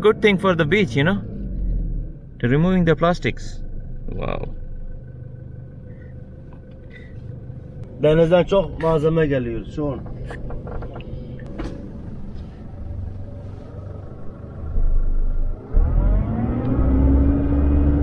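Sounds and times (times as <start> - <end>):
engine rumble from inside cabin: 0.0 - 18.0.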